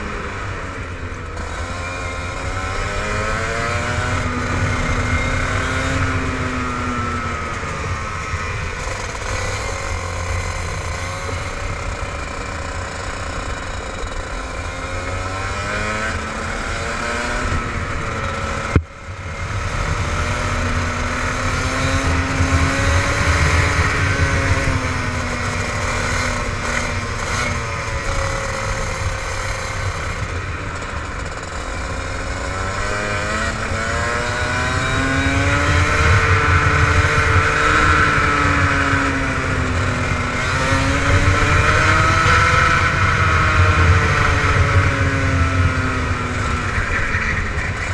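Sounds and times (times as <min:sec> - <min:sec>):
kart engine revving: 0:00.0 - 0:47.9.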